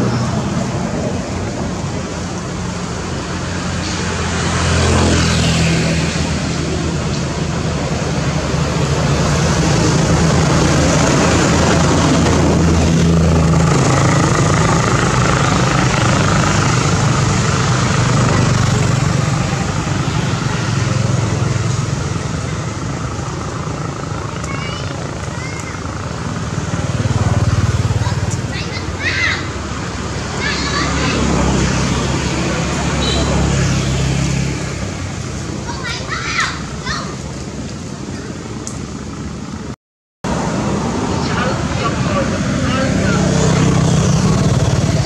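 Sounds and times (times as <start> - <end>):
loud motor drone: 0.0 - 35.4, 40.3 - 45.0.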